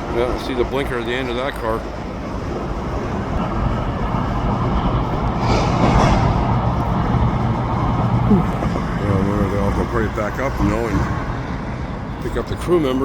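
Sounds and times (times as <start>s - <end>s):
road noise rumble: 0.0s - 13.0s
vehicle engine hum: 0.0s - 13.0s.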